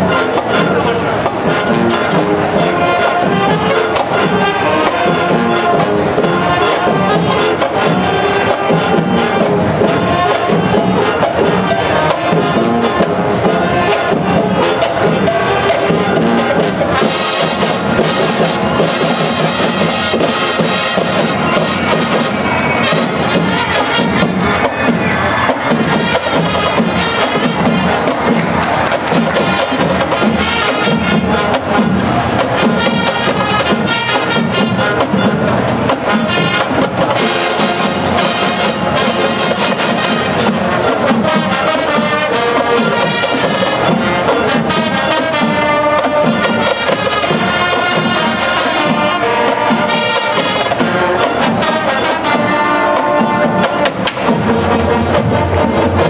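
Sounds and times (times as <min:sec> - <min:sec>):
drum beat: 0:00.0 - 0:56.0
marching band brass: 0:00.0 - 0:56.0.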